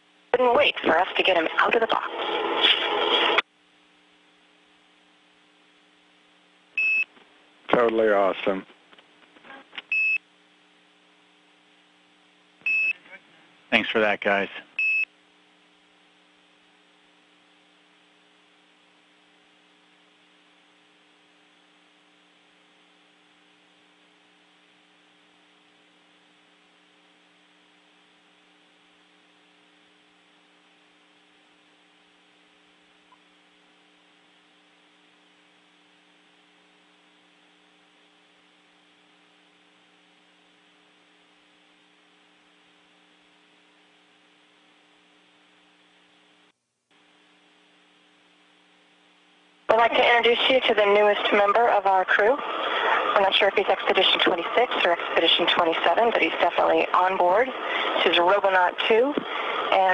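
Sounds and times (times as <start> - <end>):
faint electrical hum and hiss: 0.0 - 59.9.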